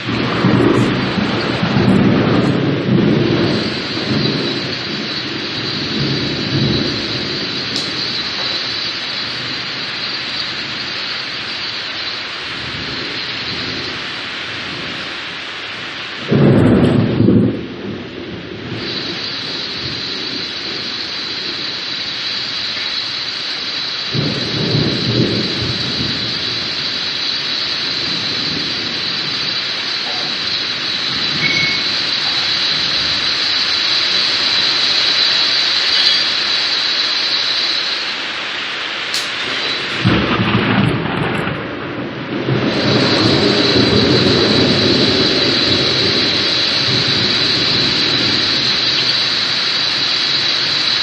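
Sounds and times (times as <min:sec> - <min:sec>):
thunder clap: 0:00.0 - 0:11.6, 0:15.9 - 0:23.4, 0:24.1 - 0:36.4, 0:39.1 - 0:51.0
steady rain: 0:00.0 - 0:51.0.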